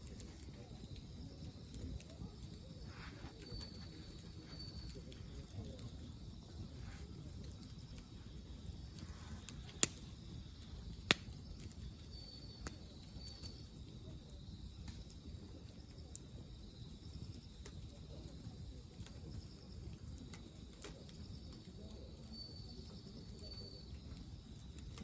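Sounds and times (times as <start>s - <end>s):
low outdoor background noise: 0.0s - 25.0s.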